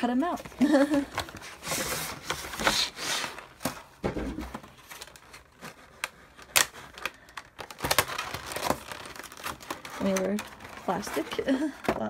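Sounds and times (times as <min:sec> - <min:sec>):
cardboard rustling scrape: 0:00.3 - 0:06.2, 0:07.9 - 0:12.0.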